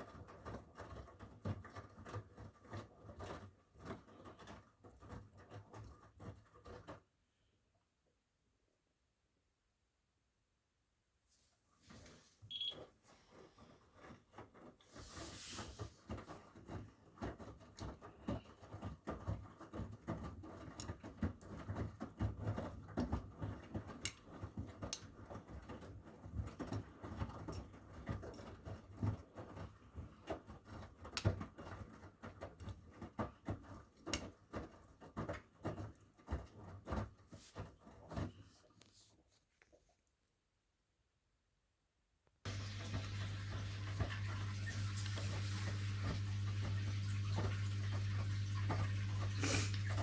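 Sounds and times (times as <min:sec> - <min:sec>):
washing machine drum tumbling laundry: 0:00.0 - 0:07.1, 0:11.9 - 0:38.8, 0:42.5 - 0:50.0.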